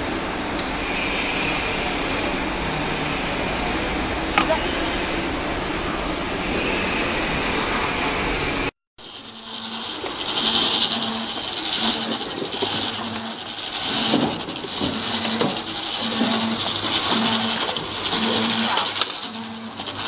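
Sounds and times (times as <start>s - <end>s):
machine mechanical hiss: 0.7s - 5.7s, 6.3s - 20.0s.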